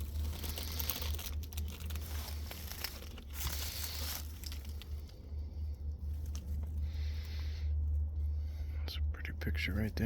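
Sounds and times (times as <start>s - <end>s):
rustling and crinkling: 0.0s - 8.7s
steady low hum: 0.0s - 10.0s.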